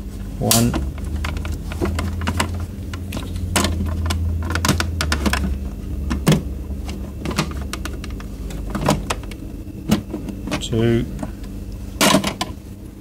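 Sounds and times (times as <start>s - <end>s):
steady low hum: 0.0s - 13.0s
plastic parts clicking and knocking: 0.4s - 12.6s.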